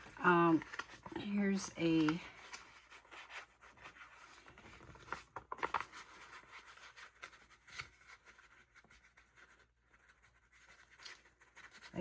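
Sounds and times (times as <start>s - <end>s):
paper and sticker sheets rustling: 0.0s - 12.0s.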